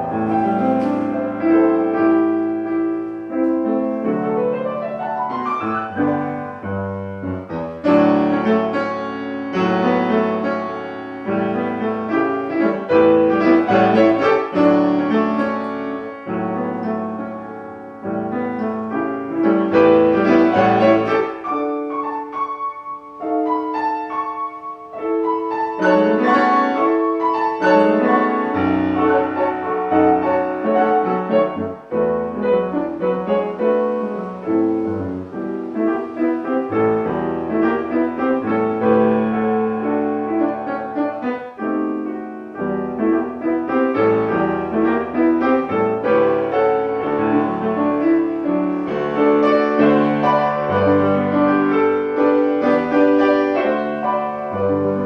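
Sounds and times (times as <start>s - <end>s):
classical piano music: 0.0s - 55.0s.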